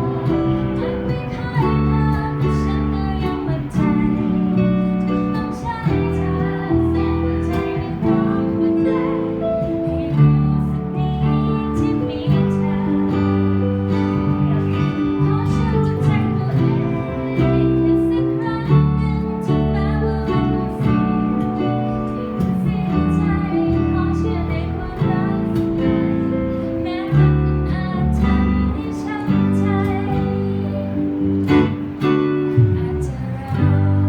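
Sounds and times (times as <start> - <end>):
person singing: 0.0 - 34.0
strummed acoustic guitar: 0.0 - 34.0.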